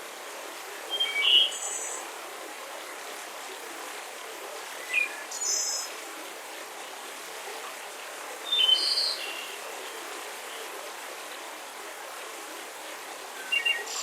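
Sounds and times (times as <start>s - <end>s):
breezy forest ambience hiss: 0.0s - 14.0s.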